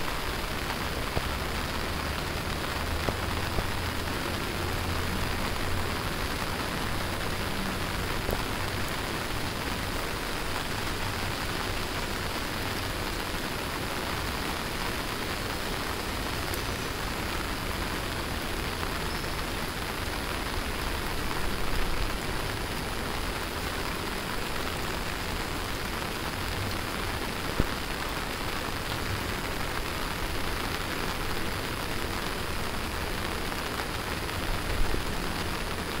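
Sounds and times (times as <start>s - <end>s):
rain splashing on paving: 0.0s - 36.0s.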